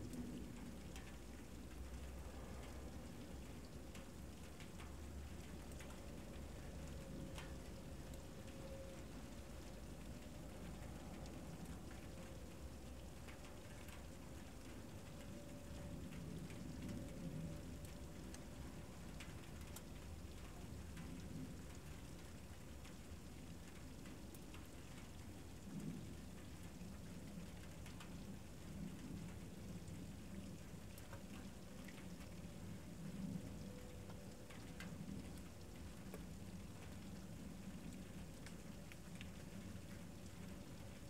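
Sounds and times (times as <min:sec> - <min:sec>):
light ticks: 0:00.1 - 0:29.5, 0:30.4 - 0:32.4, 0:37.8 - 0:41.0.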